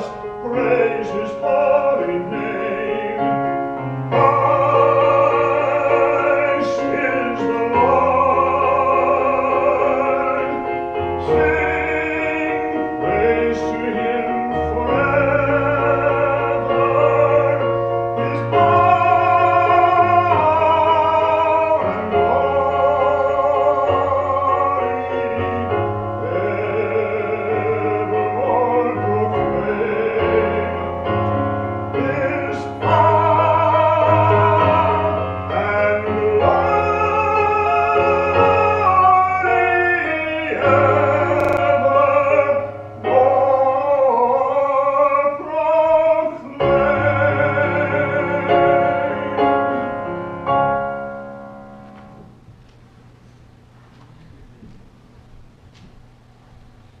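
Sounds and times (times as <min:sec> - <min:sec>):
operatic singer: 0:00.0 - 0:51.2
piano accompaniment: 0:00.0 - 0:57.0.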